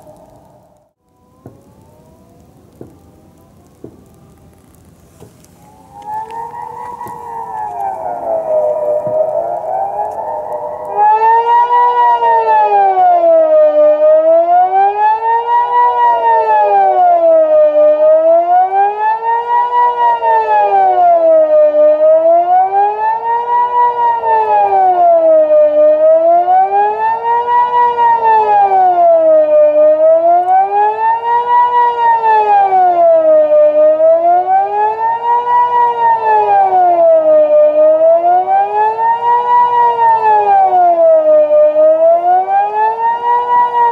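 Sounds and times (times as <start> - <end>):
rising and falling siren: 0.0 - 43.9.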